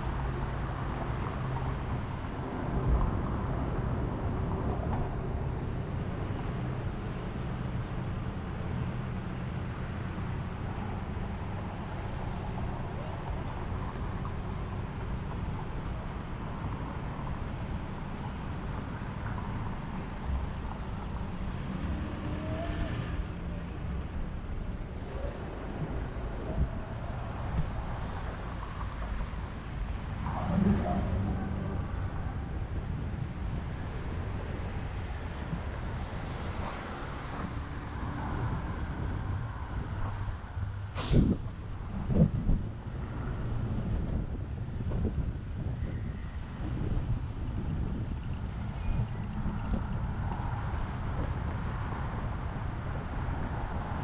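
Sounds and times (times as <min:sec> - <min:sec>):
city street traffic rumble: 0:00.0 - 0:54.0.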